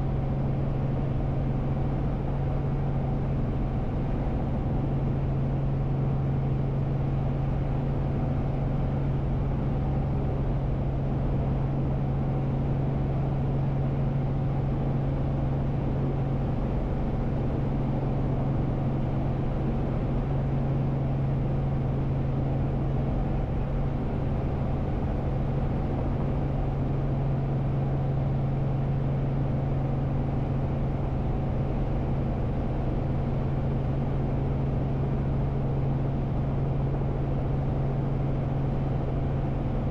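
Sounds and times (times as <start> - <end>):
helicopter hovering from inside cabin: 0.0 - 39.9.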